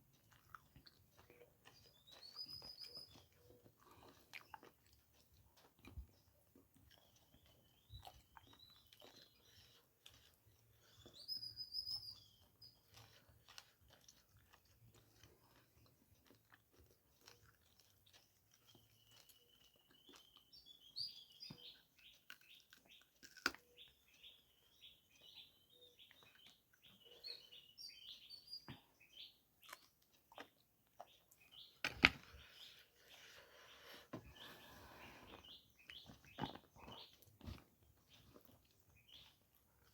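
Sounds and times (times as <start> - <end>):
close wet chewing: 0.0 - 39.9.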